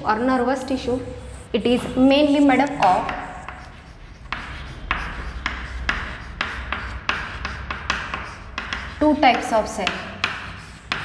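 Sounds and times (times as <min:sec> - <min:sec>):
steady low hum: 0:00.0 - 0:11.0
chalk tapping and scratching: 0:00.5 - 0:11.0.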